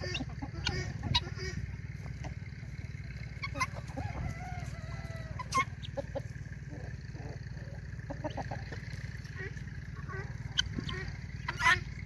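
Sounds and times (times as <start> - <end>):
chickens and guinea fowl clucking: 0.0 - 12.0
drawn-out bird call: 0.0 - 12.0
steady low hum: 0.0 - 12.0.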